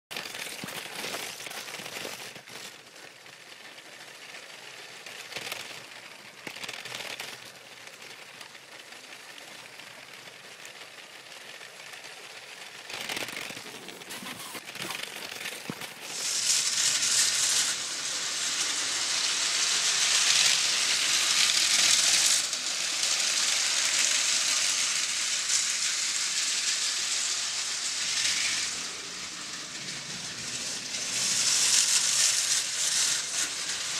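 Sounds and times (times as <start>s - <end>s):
toy train rattling on plastic track: 0.1s - 33.9s.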